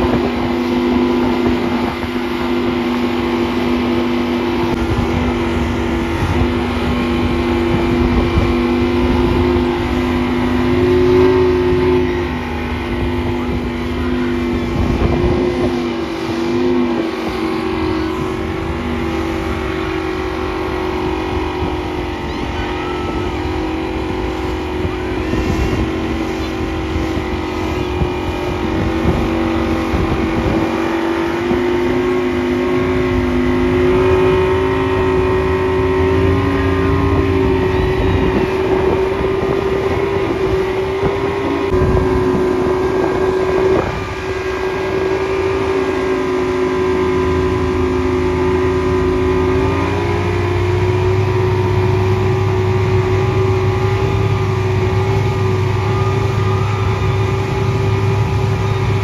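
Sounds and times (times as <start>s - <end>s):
rushing water: 0.0s - 59.0s
speedboat engine running: 0.0s - 59.0s
wind noise: 0.0s - 59.0s.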